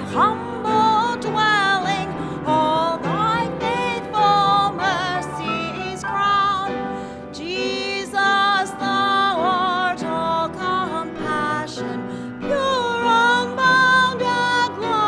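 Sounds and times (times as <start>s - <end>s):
woman singing a hymn: 0.0s - 15.0s.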